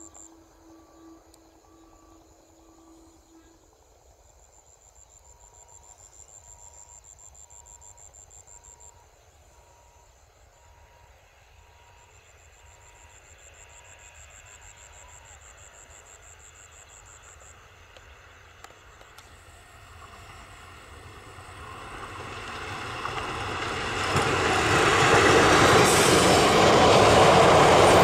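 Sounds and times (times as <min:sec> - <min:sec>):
pulsing insect chirr: 0:00.0 - 0:28.0.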